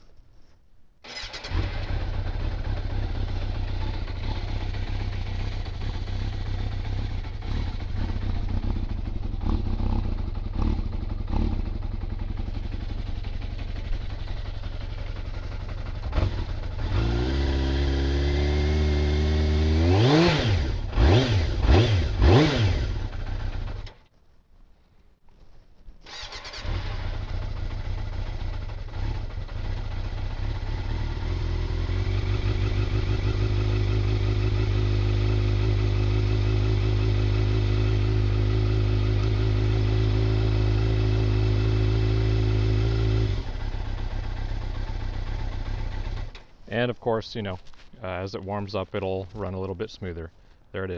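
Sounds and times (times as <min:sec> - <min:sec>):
motorcycle engine idling: 0:01.0 - 0:19.8, 0:20.6 - 0:24.0, 0:26.1 - 0:46.8
motorcycle engine starting: 0:01.0 - 0:24.1, 0:26.0 - 0:50.9.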